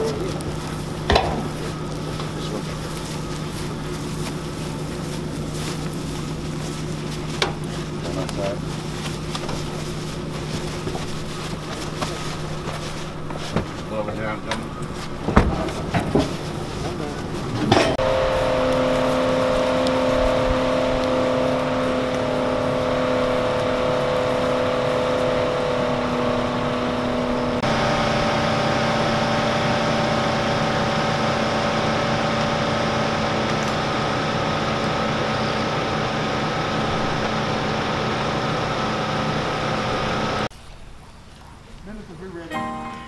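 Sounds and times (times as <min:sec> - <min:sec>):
vehicle engine idling: 0:00.0 - 0:40.5.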